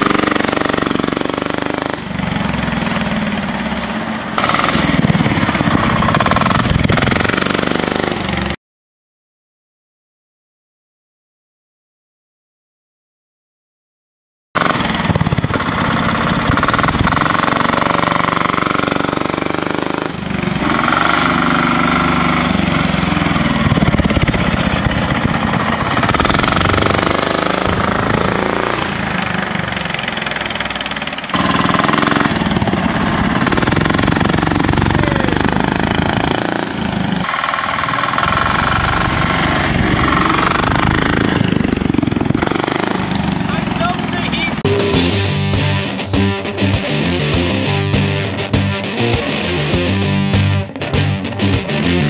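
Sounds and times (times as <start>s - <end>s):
diesel tractor engine clattering: 0.0s - 8.6s, 14.6s - 52.0s.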